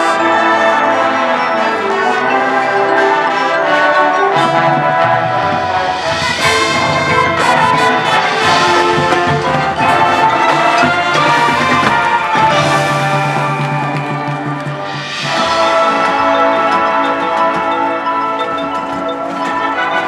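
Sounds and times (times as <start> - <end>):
brass band playing chords: 0.0 - 20.0.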